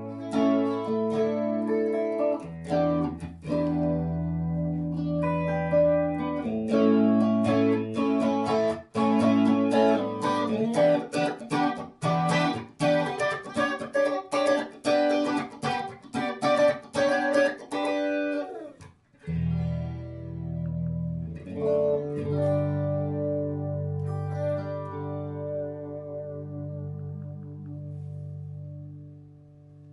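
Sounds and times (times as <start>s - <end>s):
flanged electric guitar: 0.0s - 29.9s.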